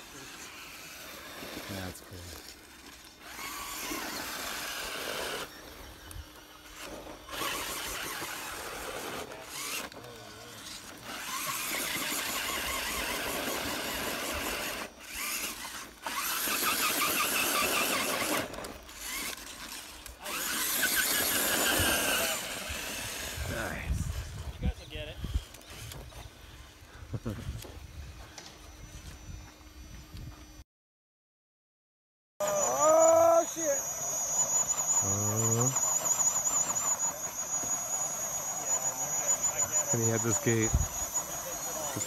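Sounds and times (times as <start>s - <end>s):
electric motor and gears whining: 0.0s - 30.6s, 32.4s - 42.0s.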